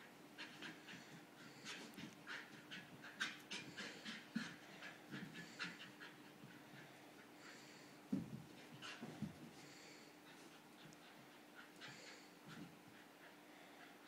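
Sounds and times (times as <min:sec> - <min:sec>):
dog panting: 0:00.3 - 0:14.0.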